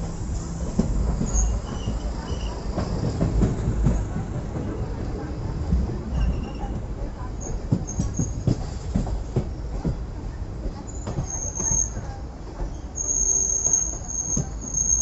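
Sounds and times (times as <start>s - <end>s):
low rumble of train coach: 0.0s - 15.0s.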